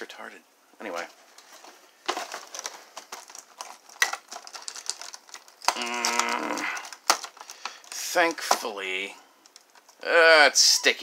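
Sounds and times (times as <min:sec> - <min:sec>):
plastic packaging crinkling: 0:00.9 - 0:10.0.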